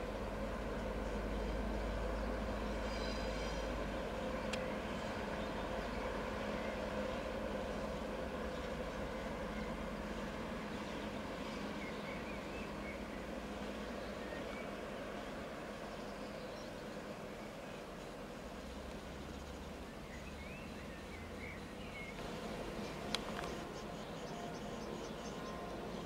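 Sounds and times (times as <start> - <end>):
diesel locomotive engine droning: 0.0 - 26.0.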